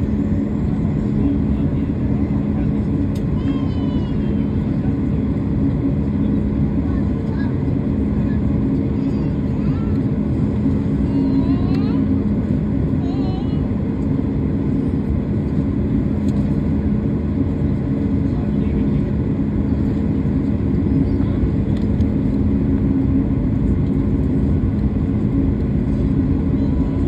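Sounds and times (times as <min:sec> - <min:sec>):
jet engines idling in cabin: 0:00.0 - 0:27.0.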